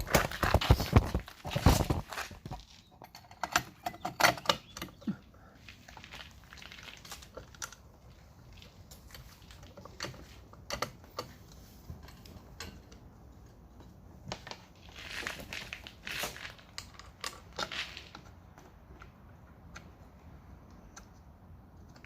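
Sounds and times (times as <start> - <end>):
rustling and crinkling: 0.0 - 19.2
clicks and knocks of parts: 0.0 - 22.0.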